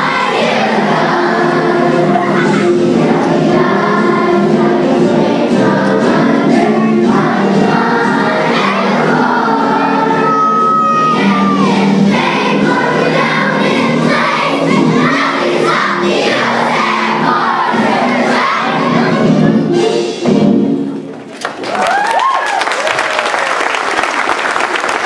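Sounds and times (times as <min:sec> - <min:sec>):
children's choir singing: 0:00.0 - 0:20.4.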